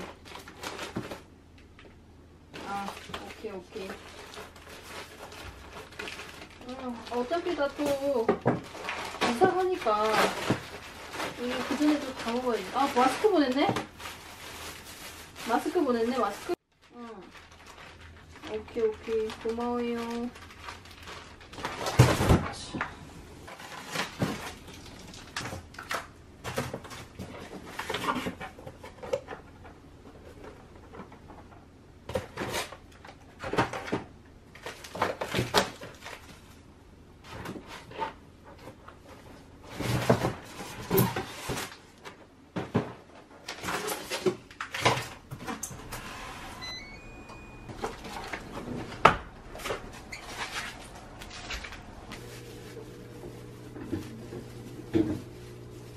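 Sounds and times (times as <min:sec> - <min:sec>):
plastic packaging rustling: 0:00.0 - 0:29.5, 0:32.1 - 0:55.9.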